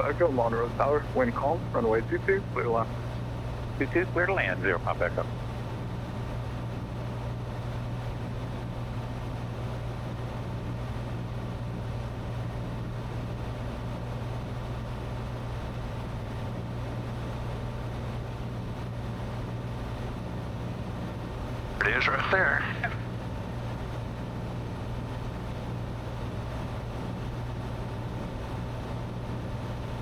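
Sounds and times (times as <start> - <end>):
aircraft engine and propeller droning: 0.0 - 30.0.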